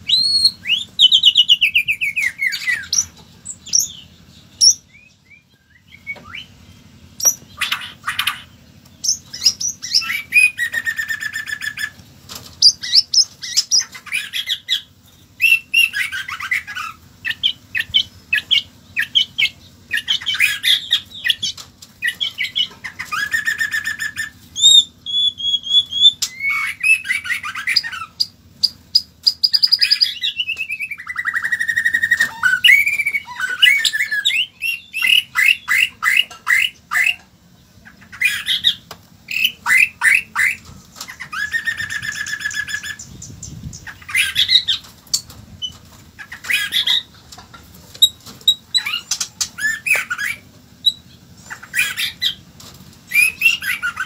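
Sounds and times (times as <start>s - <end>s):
bird singing whistled trills: 0.0s - 12.0s, 12.6s - 37.3s, 37.9s - 44.8s, 48.0s - 52.4s, 53.1s - 54.0s.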